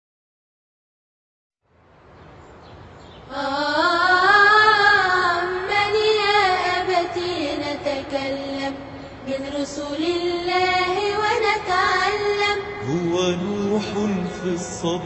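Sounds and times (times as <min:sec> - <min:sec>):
faint hiss: 0:01.7 - 0:15.0.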